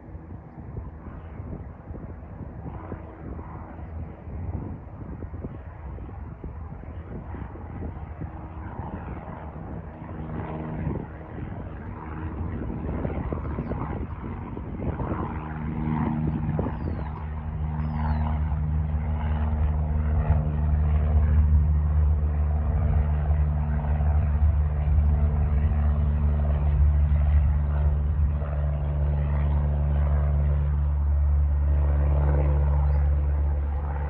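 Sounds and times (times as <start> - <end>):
propeller airplane engine drone: 0.0 - 34.0.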